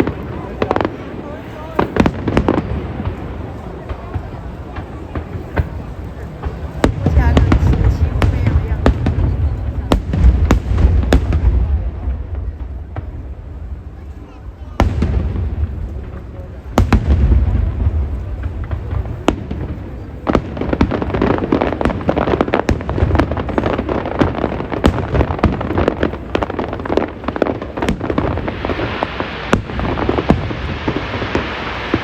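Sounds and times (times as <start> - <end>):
deep firework boom: 0.0 - 32.0
fireworks crackling pops and bangs: 0.0 - 32.0
hissing crackle: 0.0 - 32.0.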